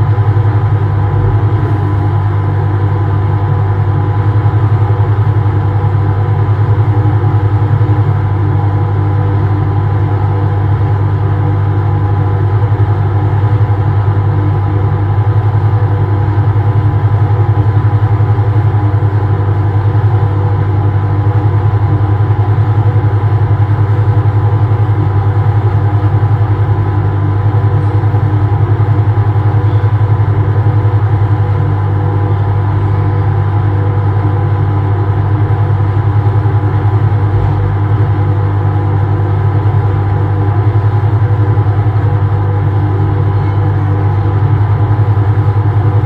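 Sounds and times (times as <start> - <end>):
ventilation fan humming: 0.0 - 46.0.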